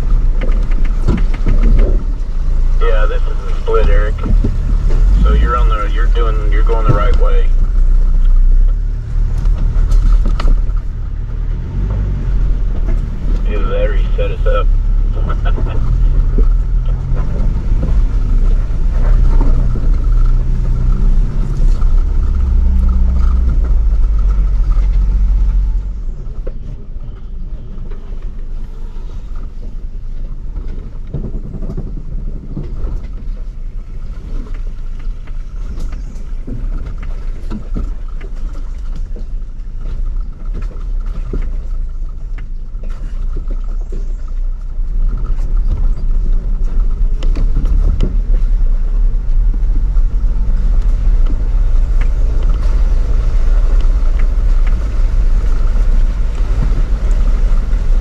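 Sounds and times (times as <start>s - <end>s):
vehicle engine crawling: 0.0s - 58.0s
vehicle knocking over rough ground: 0.0s - 58.0s.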